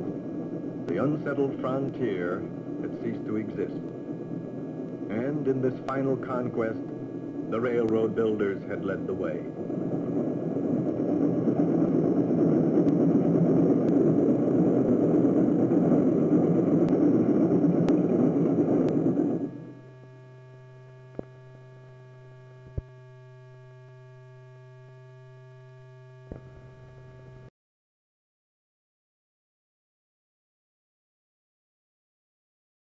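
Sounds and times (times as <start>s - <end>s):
quiet steady hum: 0.0s - 27.5s.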